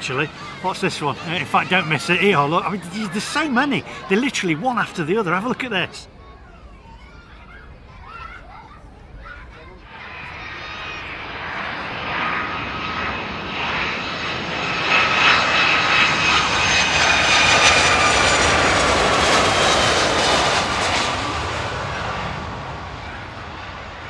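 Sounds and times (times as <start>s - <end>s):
high whining jet tones: 0.0s - 7.5s, 9.8s - 24.0s
jet airliner engine roar: 0.0s - 24.0s.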